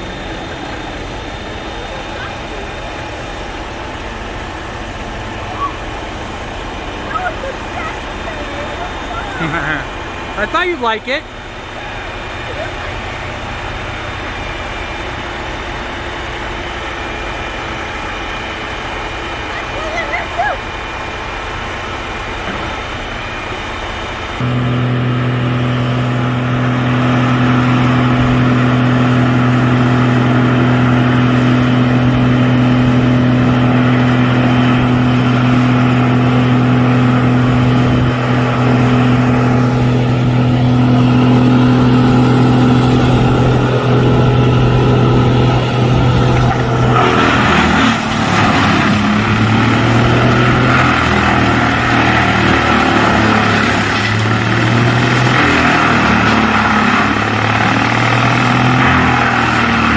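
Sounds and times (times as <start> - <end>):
large engine running: 0.0 - 59.9.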